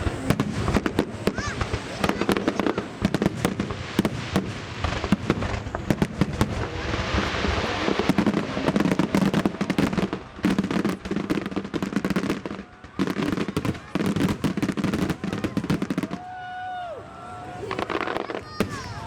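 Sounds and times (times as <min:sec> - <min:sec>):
dense fireworks crackling: 0:00.0 - 0:19.0
fireworks bursting with sharp bangs: 0:00.0 - 0:19.0.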